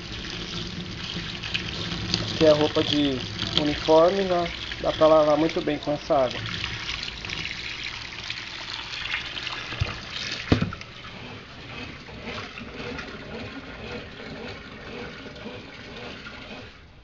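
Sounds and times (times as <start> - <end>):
water gushing from a hose: 0.0 - 16.9.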